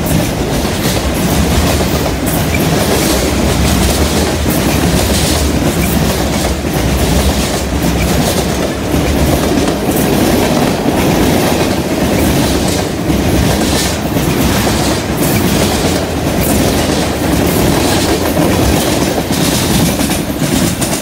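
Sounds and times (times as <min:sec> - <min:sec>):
freight train wheels rumbling: 0:00.0 - 0:21.0
wheels clacking over track: 0:00.0 - 0:21.0.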